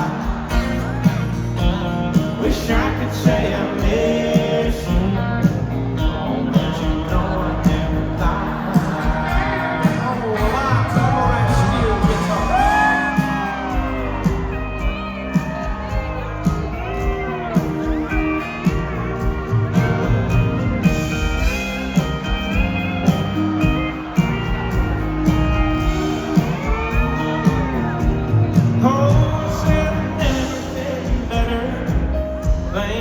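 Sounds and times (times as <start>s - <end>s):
country band playing: 0.0s - 33.0s.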